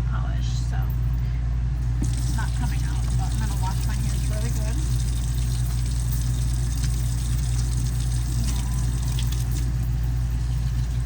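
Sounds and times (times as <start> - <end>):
low mechanical hum: 0.0 - 11.0
tap water running: 1.8 - 11.0.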